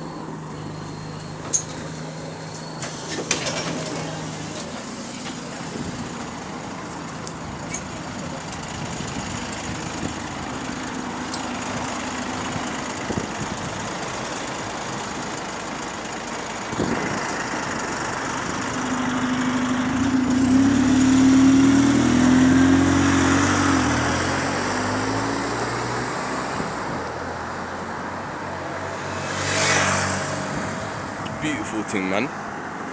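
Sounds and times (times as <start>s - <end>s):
bus diesel engine revving: 0.0s - 29.2s.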